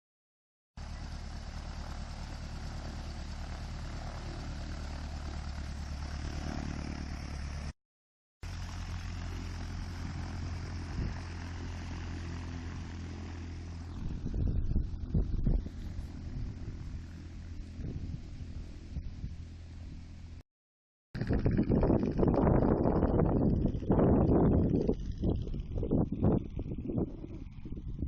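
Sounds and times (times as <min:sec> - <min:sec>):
propeller engine running: 0:00.8 - 0:07.8, 0:08.4 - 0:20.4, 0:21.2 - 0:28.0.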